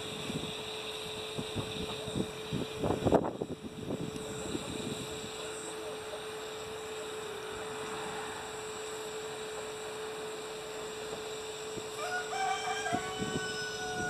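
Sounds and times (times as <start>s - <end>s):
soldering iron hum and hiss: 0.0s - 14.0s.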